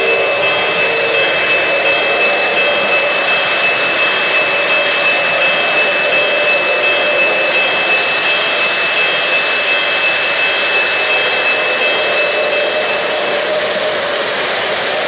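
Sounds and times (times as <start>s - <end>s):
high whine: 0.0s - 15.0s
model train wheels rumbling on track: 0.0s - 15.0s.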